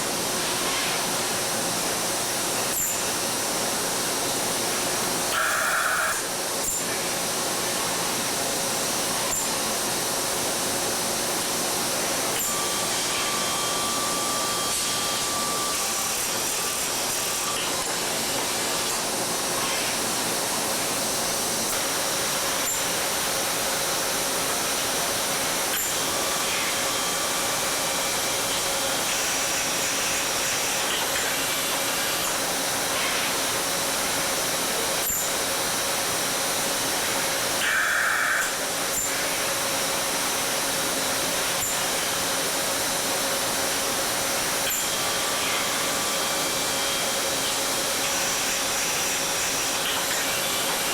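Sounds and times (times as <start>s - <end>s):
welding arc sizzling hiss: 8.9s - 50.9s.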